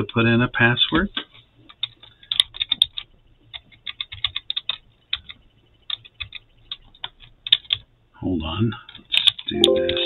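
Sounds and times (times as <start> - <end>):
keyboard typing: 0.9 - 7.9, 8.8 - 10.0.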